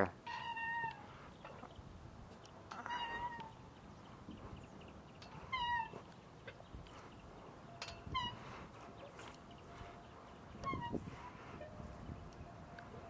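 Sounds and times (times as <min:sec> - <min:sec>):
swing chains squeaking: 0:00.0 - 0:13.0.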